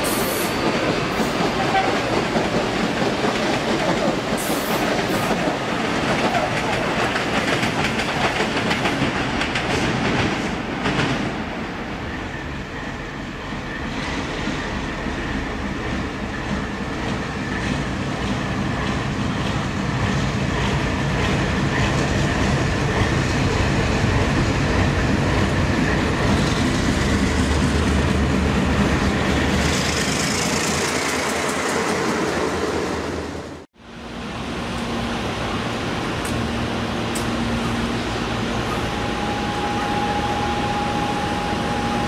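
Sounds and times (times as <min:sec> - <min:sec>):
wheel and rail noise: 0:00.0 - 0:42.0.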